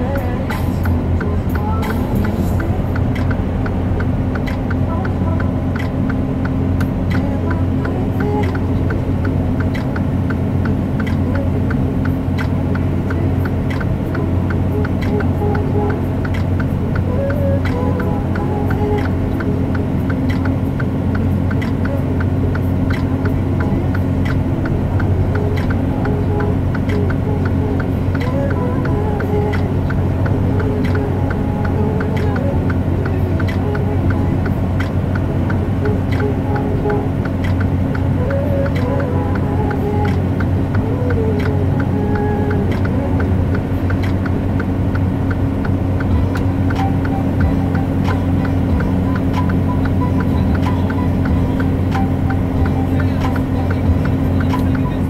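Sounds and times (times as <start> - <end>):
light even ticking: 0.0 - 55.0
truck engine and road drone: 0.0 - 55.0.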